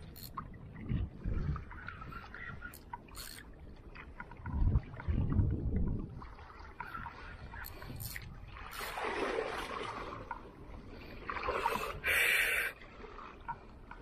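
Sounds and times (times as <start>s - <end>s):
seawater splashing against boat: 0.0s - 12.2s.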